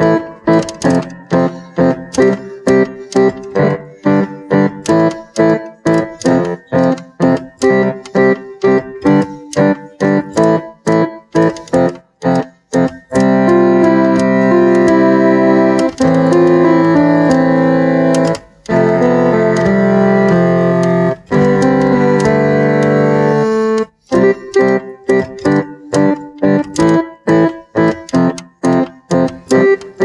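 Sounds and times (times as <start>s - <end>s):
keyboard chords: 0.0s - 30.0s.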